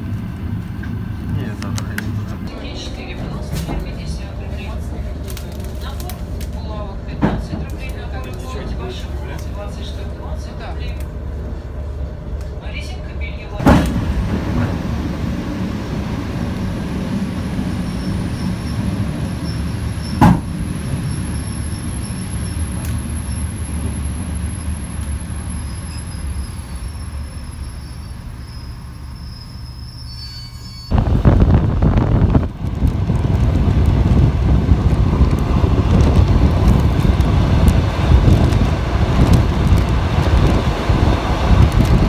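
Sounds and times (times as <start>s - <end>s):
train running rumble: 0.0s - 42.0s
wind and wheel-on-rail noise: 0.0s - 42.0s.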